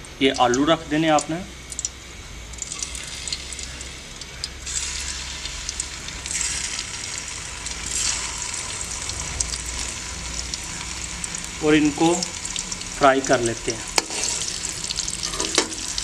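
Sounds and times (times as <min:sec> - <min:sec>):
hot fat sizzling in a pan: 0:00.2 - 0:16.0.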